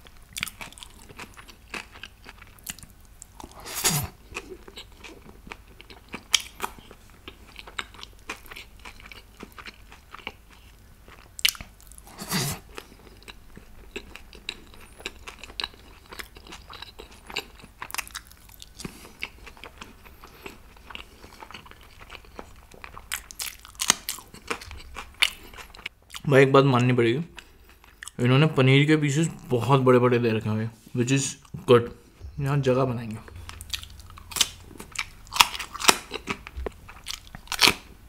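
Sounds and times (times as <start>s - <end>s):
person chewing and biting: 0.3s - 26.2s, 33.2s - 38.0s.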